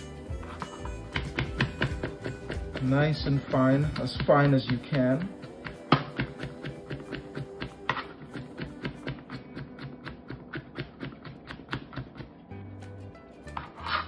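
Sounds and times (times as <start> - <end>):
background music: 0.0 - 14.0
knife chopping on cutting board: 0.4 - 12.4.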